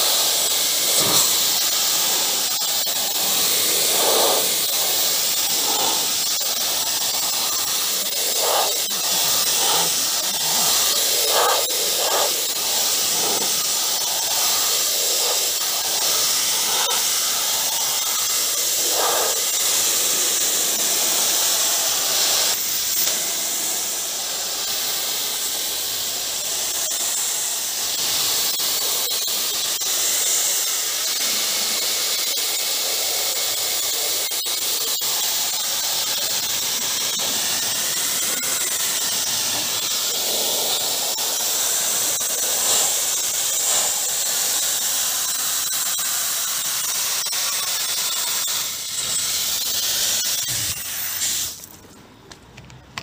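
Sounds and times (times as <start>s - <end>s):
pressure washer spraying water: 0.0s - 51.8s.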